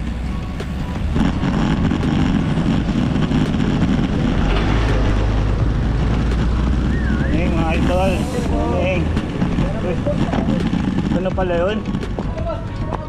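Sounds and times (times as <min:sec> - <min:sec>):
bus engine rumble passing: 0:00.0 - 0:13.0.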